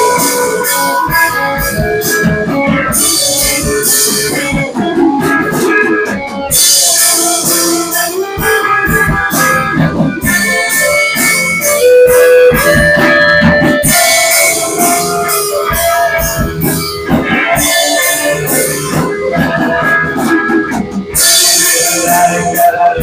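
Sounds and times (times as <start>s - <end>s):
cymbals: 0.0s - 23.0s
drum kit: 0.0s - 23.0s
electric guitar lines: 0.0s - 23.0s.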